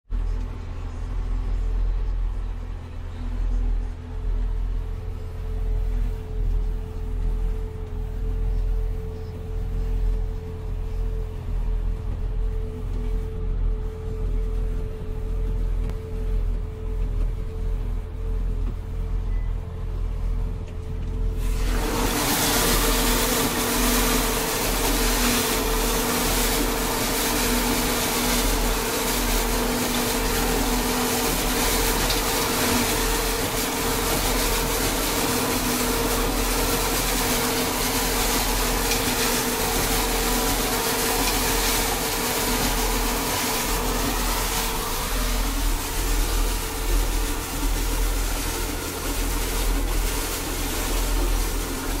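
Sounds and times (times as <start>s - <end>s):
steady machine whine: 0.1s - 52.0s.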